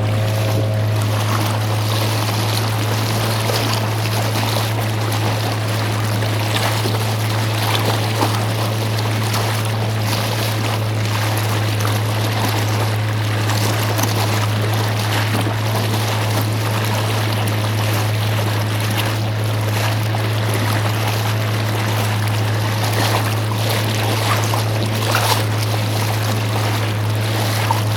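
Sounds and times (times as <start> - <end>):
boat motor humming: 0.0 - 27.9
water splashing along hull: 0.0 - 27.9.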